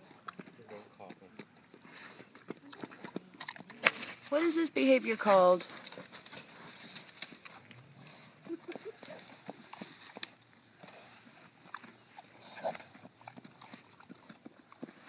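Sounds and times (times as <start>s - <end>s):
pigs smacking lips: 0.0s - 4.9s, 5.6s - 15.0s.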